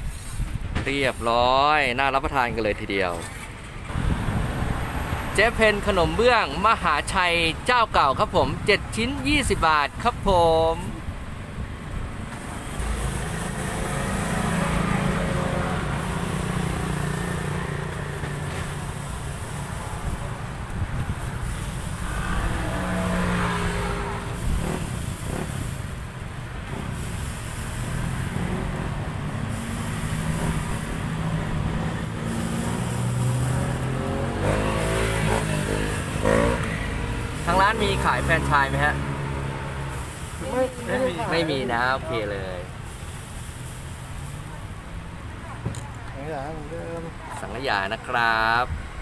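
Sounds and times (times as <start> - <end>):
traffic passing: 0.0 - 49.0.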